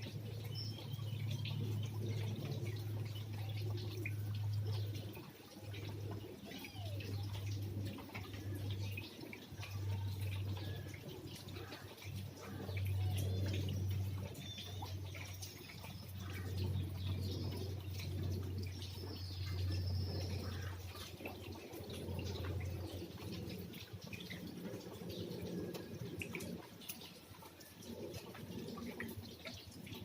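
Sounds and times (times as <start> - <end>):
birds chirping: 0.0 - 30.0
low steady hum: 0.0 - 30.0
rain dripping: 0.0 - 30.0.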